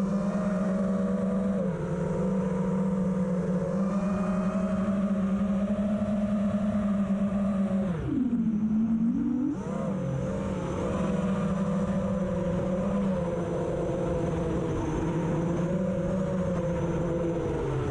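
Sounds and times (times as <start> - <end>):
quadcopter motors whining: 0.0 - 17.9.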